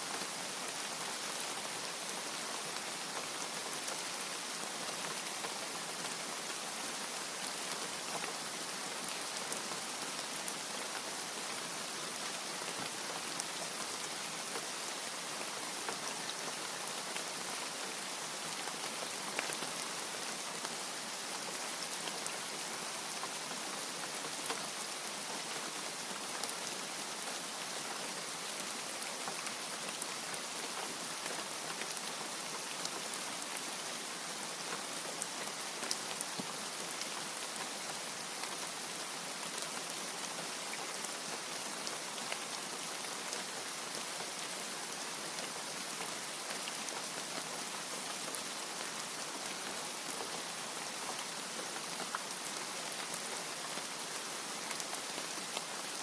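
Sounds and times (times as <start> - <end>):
rain with drops ticking: 0.1 - 56.0.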